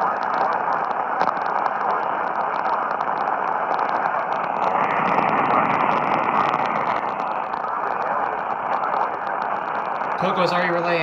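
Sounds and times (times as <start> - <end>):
radio static hiss: 0.0 - 11.0
rapid clicking interference: 0.0 - 11.0.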